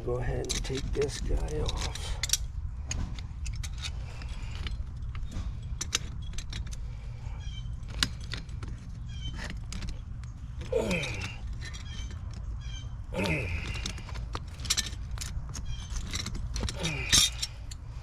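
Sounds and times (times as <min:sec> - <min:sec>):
steady low rumble: 0:00.0 - 0:18.0
metal tools clinking on fittings: 0:00.2 - 0:18.0.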